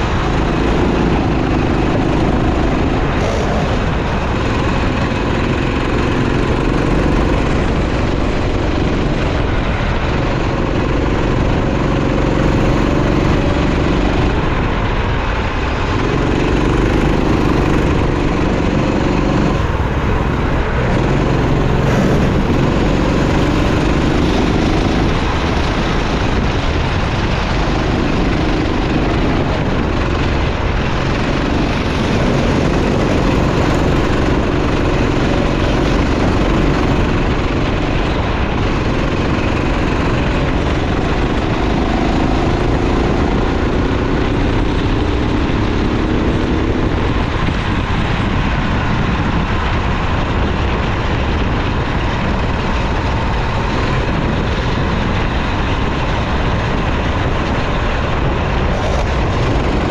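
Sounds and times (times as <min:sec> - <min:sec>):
kart engine revving: 0:00.0 - 0:59.9
road and wind noise: 0:00.0 - 0:59.9.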